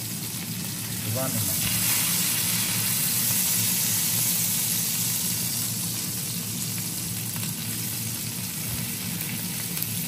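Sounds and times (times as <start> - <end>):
steak sizzling in a pan: 0.0 - 10.0.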